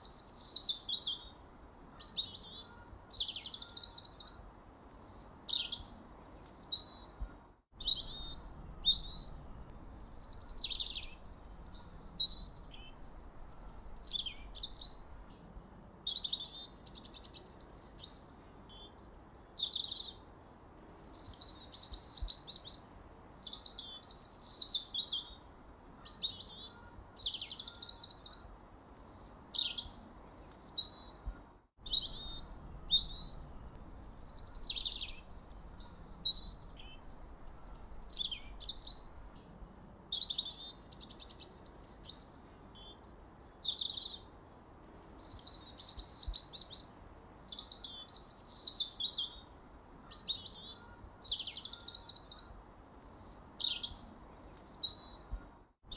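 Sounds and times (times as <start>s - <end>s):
songbird singing: 0.0s - 55.9s
faint steady hiss: 4.3s - 55.9s.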